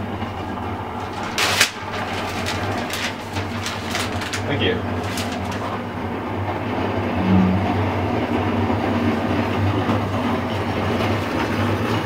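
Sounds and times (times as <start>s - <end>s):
street traffic rumble: 0.0s - 11.9s.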